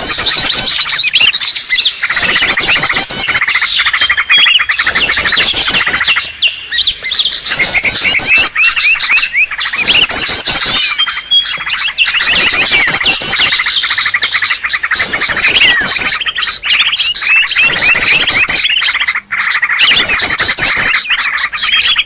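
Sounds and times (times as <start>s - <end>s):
birds chirping and whistling: 0.0s - 22.0s
fast high bird trills: 0.0s - 22.0s.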